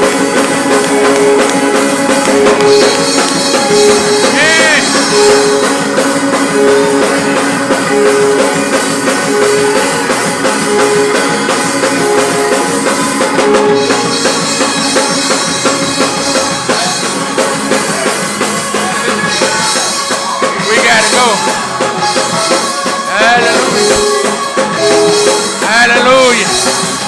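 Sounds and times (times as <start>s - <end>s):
drum kit: 0.0s - 27.0s
up-tempo church band music: 0.0s - 27.0s.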